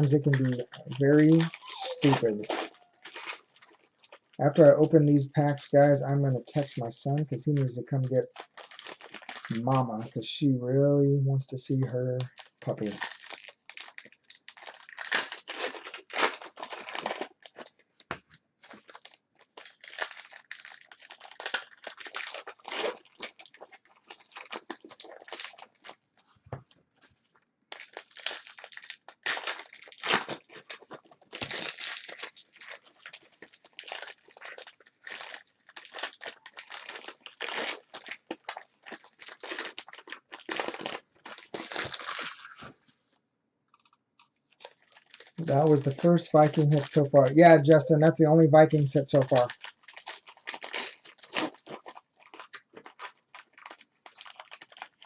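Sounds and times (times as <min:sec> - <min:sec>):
card packs torn open: 0:00.0 - 0:10.0, 0:11.8 - 0:26.0, 0:27.7 - 0:42.7, 0:43.7 - 0:47.9, 0:48.7 - 0:55.0
wrappers crinkling: 0:00.0 - 0:10.1, 0:12.2 - 0:26.7, 0:27.7 - 0:42.8, 0:43.7 - 0:47.9, 0:48.6 - 0:55.0.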